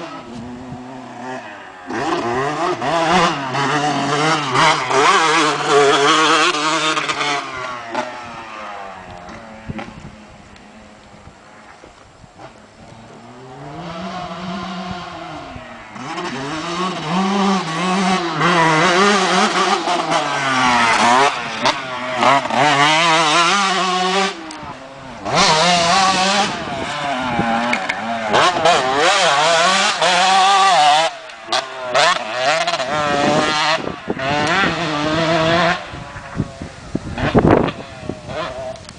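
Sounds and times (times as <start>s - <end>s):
two-stroke motorbike engine revving: 0.0s - 38.9s.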